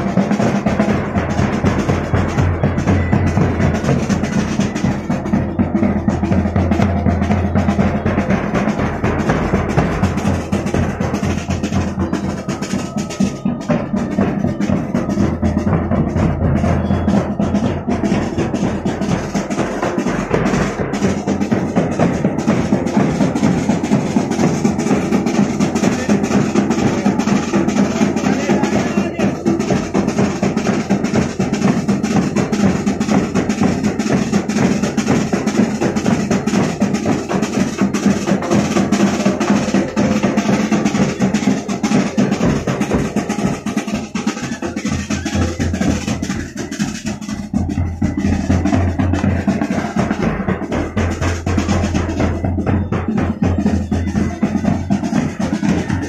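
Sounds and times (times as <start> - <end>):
marching band drums: 0.0 - 56.0.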